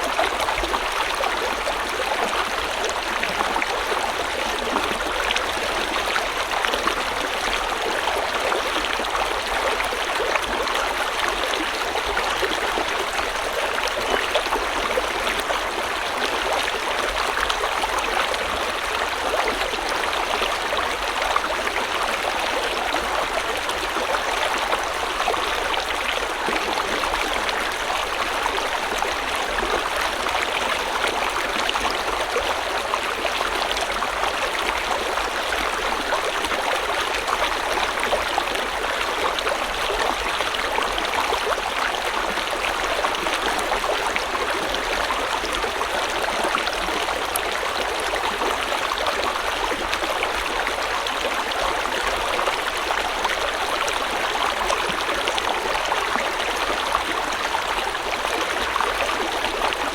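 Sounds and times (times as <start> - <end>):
stream water flowing over rocks: 0.0 - 59.9.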